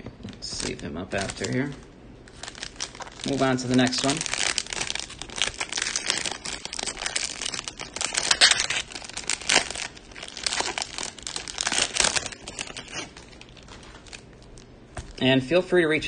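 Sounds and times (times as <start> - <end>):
plastic wrapper crinkling: 0.2 - 15.2.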